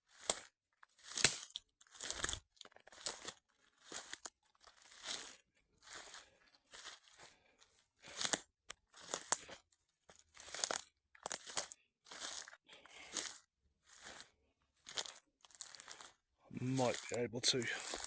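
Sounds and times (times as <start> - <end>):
footsteps crunching through undergrowth: 0.1 - 18.0.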